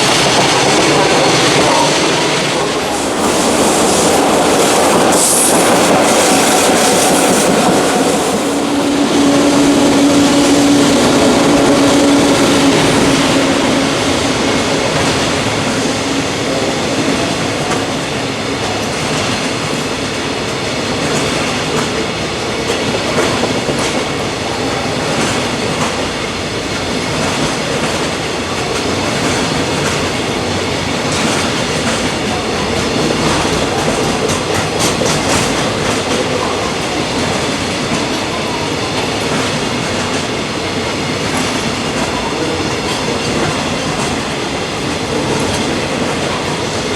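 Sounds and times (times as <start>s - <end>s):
train wheels clattering over rails: 0.0s - 46.9s.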